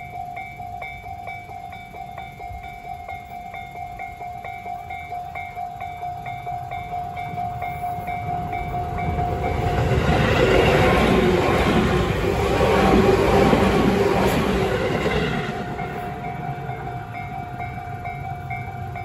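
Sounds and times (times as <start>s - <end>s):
level-crossing electronic bell: 0.0s - 19.0s
train running noise: 0.0s - 19.0s.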